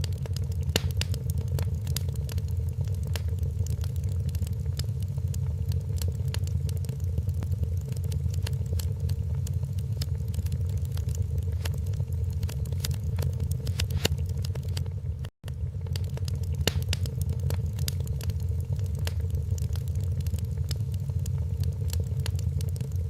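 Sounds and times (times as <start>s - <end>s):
steady low rumble: 0.0s - 23.0s
wood fire crackling and popping: 0.0s - 23.0s.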